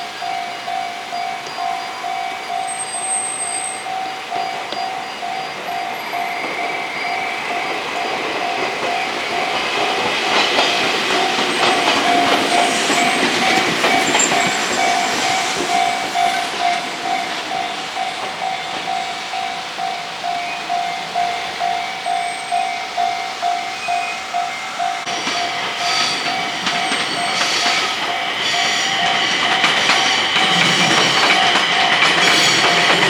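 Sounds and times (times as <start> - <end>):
level crossing bell ringing: 0.0 - 33.0
train rumble and wheel clatter: 0.0 - 33.0.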